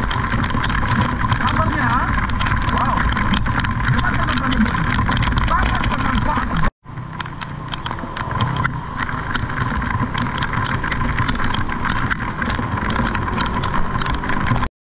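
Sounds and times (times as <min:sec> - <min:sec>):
scattered clicks: 0:00.0 - 0:14.7
vehicle engine rumbling: 0:00.0 - 0:14.7.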